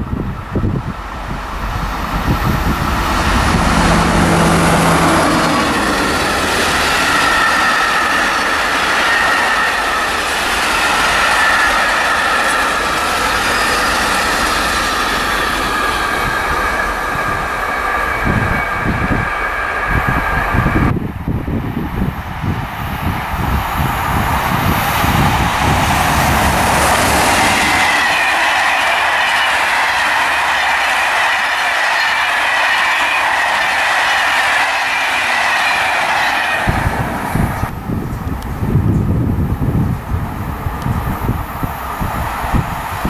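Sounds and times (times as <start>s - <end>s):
train wheels on rails: 0.0s - 43.0s.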